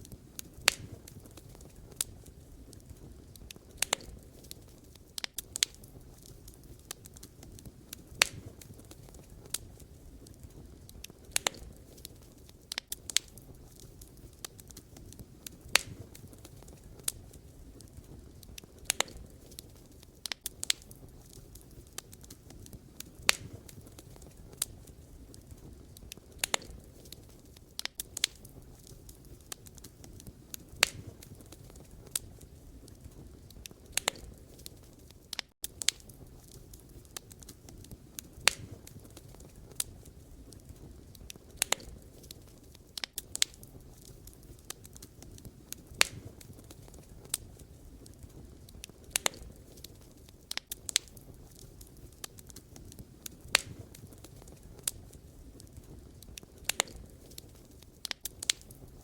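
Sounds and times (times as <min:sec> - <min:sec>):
flames hissing and rumbling: 0:00.0 - 0:59.0
logs crackling and popping: 0:00.0 - 0:59.0.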